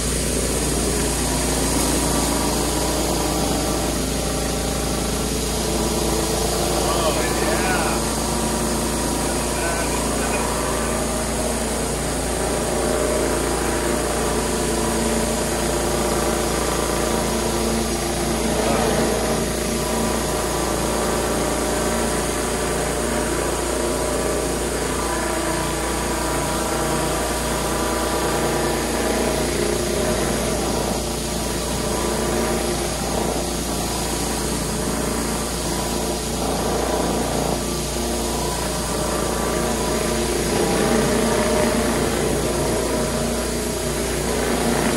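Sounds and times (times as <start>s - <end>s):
high-pressure water jet hissing: 0.0s - 44.9s
pressure washer running: 0.0s - 44.9s.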